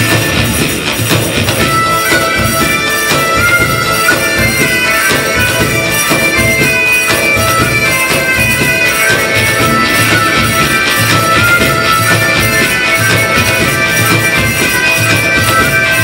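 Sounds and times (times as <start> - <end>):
bagpipe melody: 0.0 - 16.0
steady drum beat: 0.0 - 16.0.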